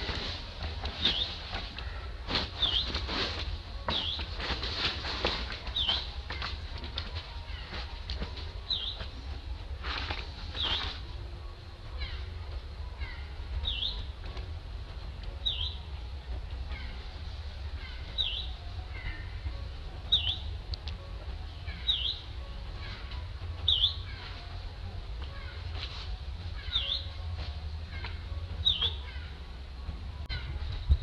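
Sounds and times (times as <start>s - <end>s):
bird chirping: 0.0s - 14.4s, 15.3s - 25.8s, 26.4s - 29.5s.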